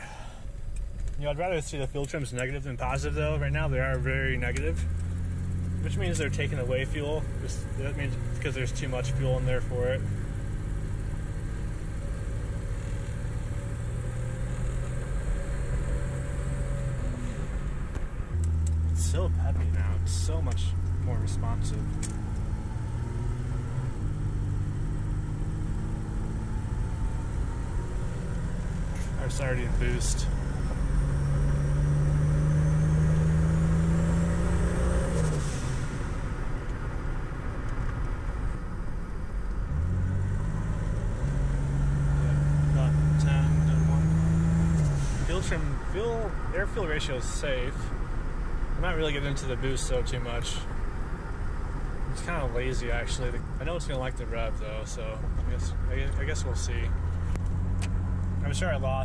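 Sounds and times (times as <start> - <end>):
car engine running: 0.0 - 59.0
road and tyre noise: 0.0 - 59.0.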